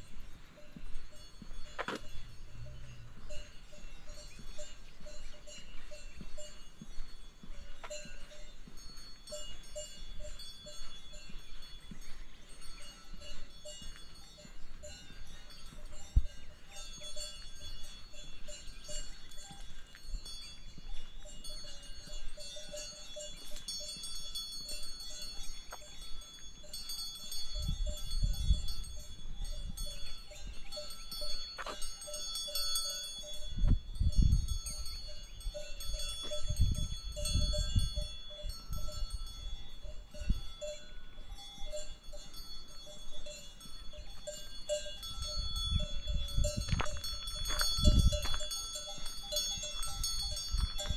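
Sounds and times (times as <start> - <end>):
livestock bells clanking: 0.0 - 50.9.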